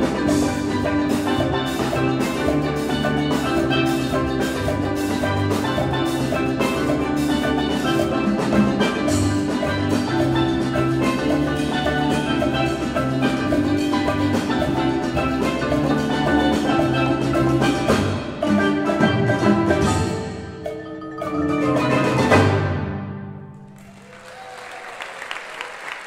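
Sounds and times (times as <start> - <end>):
steel pan ensemble: 0.0 - 23.7
mallet keyboards: 0.0 - 23.8
drum kit: 0.0 - 23.9.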